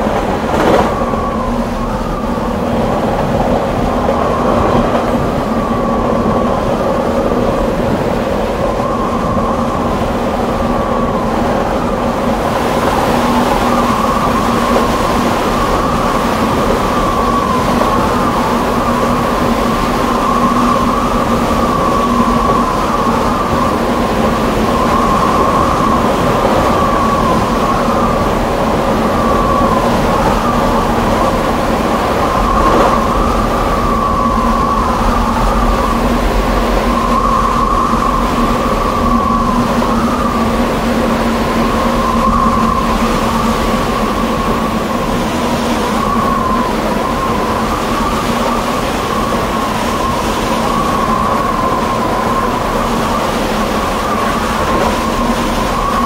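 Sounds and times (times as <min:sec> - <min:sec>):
high whine wavering in pitch: 0:00.0 - 0:56.0
train rumble: 0:00.0 - 0:56.0.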